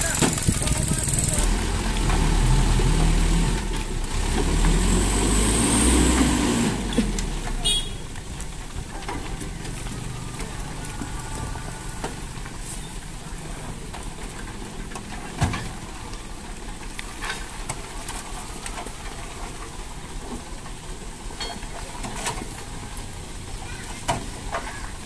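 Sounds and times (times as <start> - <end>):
dump truck engine running: 0.0 - 21.4.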